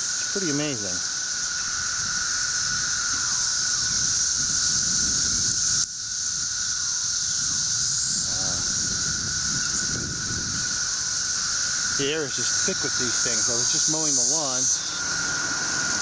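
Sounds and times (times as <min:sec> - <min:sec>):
cicada chorus: 0:00.0 - 0:16.0.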